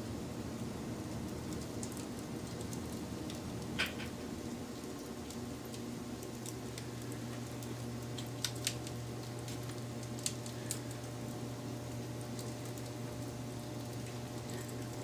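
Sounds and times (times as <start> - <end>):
steady low hum: 0.0 - 15.0
wood fire crackling: 0.0 - 15.0.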